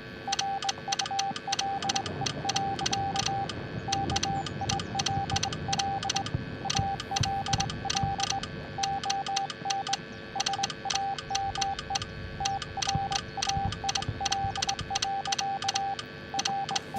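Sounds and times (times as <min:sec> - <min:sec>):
morse code beeps: 0:00.0 - 0:16.9
sharp clicks: 0:00.3 - 0:16.9.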